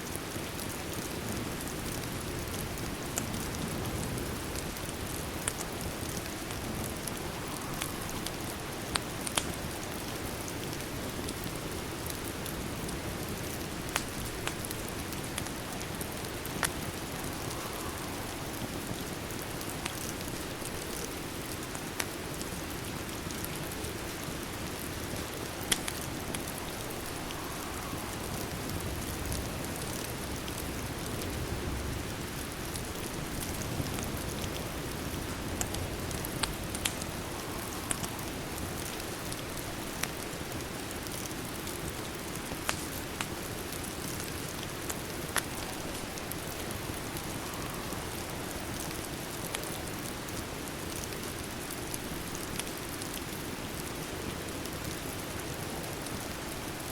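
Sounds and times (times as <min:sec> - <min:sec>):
steady rain: 0:00.0 - 0:56.9
fireplace crackles: 0:00.1 - 0:56.9.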